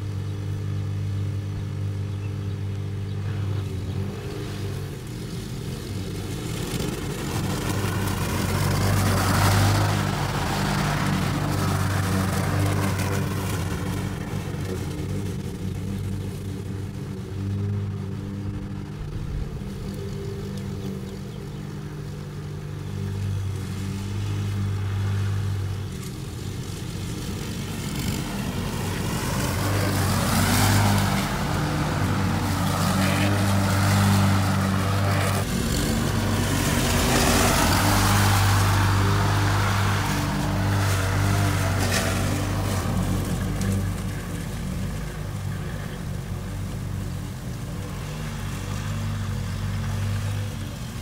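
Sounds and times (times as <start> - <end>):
lawn mower engine running: 0.0 - 51.0.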